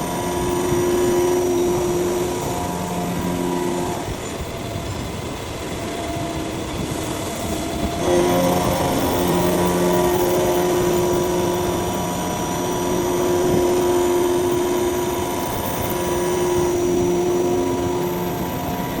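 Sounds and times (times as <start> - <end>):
held machine tones: 0.0 - 19.0
milling machine drone: 0.0 - 19.0.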